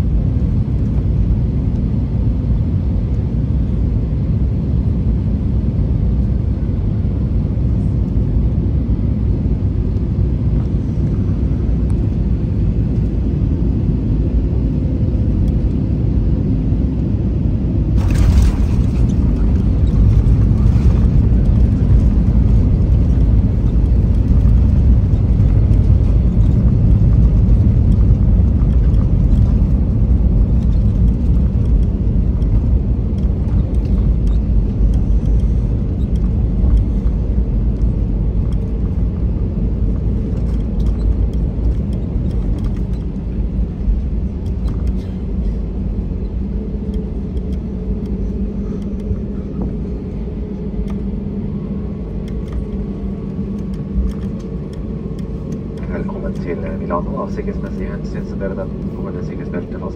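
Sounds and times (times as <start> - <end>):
deep rumble of aircraft on runway: 0.0 - 59.9
jet engine hum: 0.0 - 59.9.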